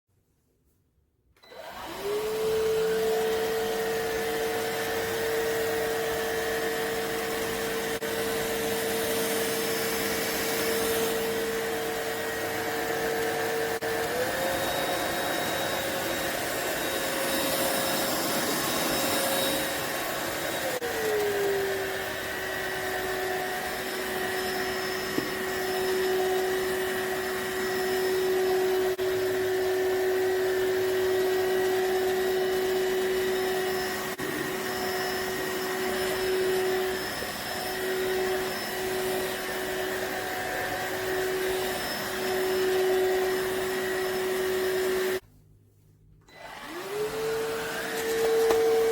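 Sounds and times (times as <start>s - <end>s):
vacuum cleaner motor whine: 1.4s - 45.2s, 46.2s - 48.9s.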